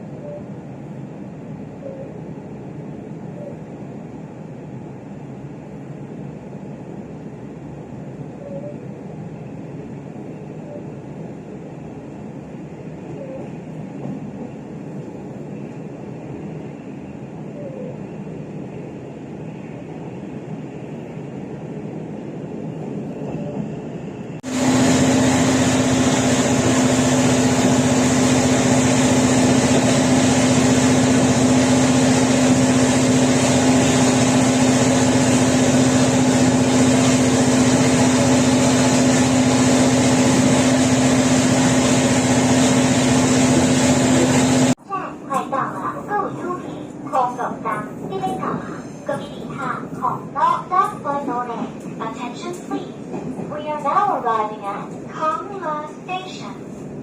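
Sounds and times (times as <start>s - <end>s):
diesel locomotive engine drone: 0.0s - 57.0s
moving train running noise: 0.0s - 57.0s.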